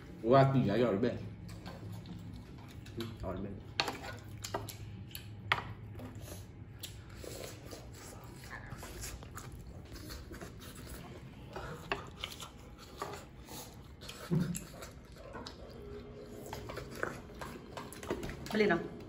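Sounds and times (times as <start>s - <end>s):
chewing: 1.3s - 19.0s.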